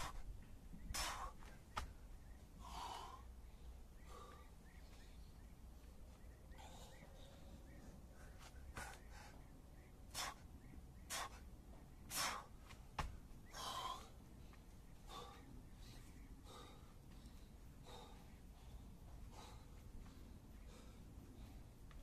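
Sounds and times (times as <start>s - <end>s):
man breathing heavily: 0.0s - 22.0s.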